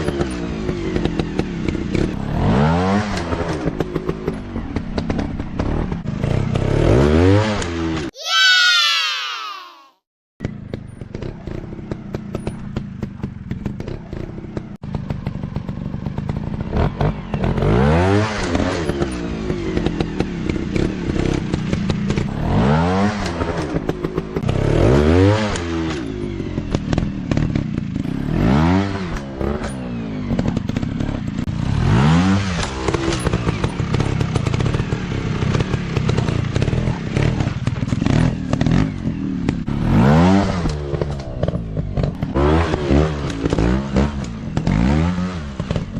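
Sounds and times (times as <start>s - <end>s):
dirt bike engine revving: 0.0s - 8.0s, 13.5s - 45.9s.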